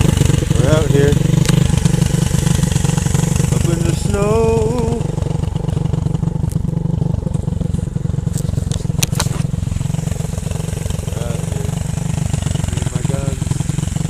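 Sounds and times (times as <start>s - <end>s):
small motorbike engine running: 0.0s - 14.0s.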